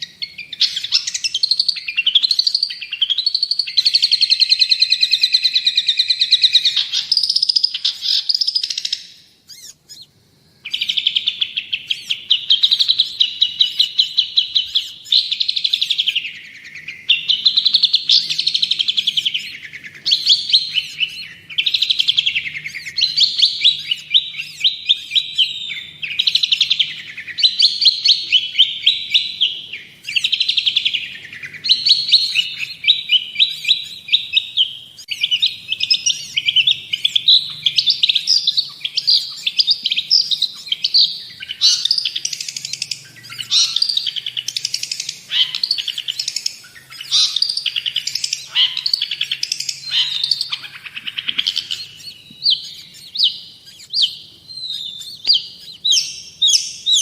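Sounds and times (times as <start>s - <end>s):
bird chattering trills: 0.0s - 57.0s.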